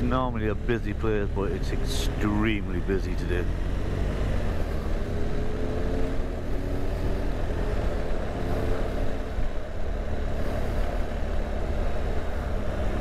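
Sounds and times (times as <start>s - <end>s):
motorcycle engine low rumble: 0.0s - 13.0s
traffic: 0.0s - 13.0s.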